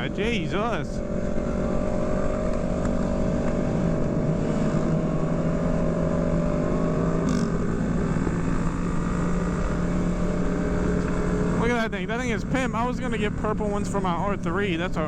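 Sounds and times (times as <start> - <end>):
motorcycle engines cruising: 0.0 - 15.0.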